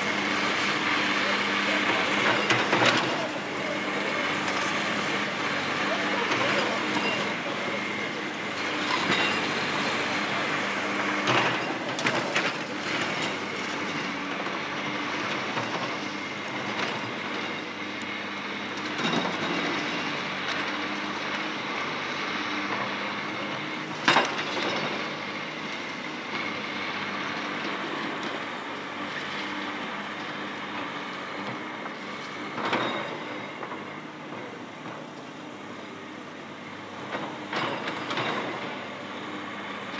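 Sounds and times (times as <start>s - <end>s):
excavator running: 0.0s - 39.9s.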